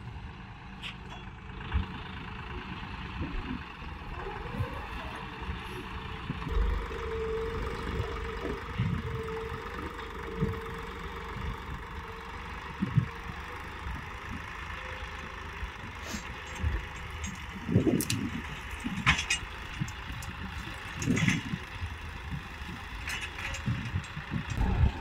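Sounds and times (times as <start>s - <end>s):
diesel tractor engine under load: 0.0s - 25.0s.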